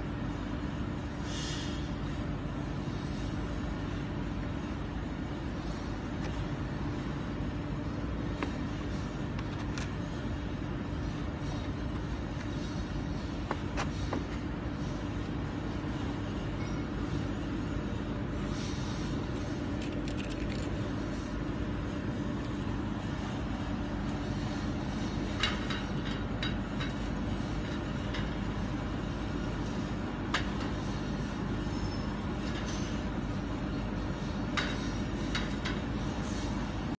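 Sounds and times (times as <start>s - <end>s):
faint hum: 0.0s - 36.9s.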